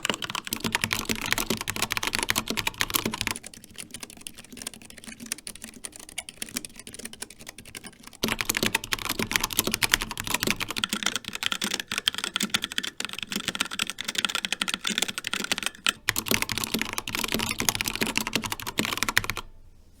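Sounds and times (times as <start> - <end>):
fast typing on mechanical keyboard: 0.0 - 19.5.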